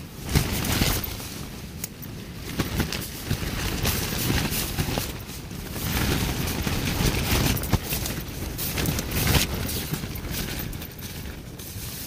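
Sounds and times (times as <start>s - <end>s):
tent fabric flapping: 0.0s - 12.0s
wind gusts buffeting microphone: 0.0s - 12.0s.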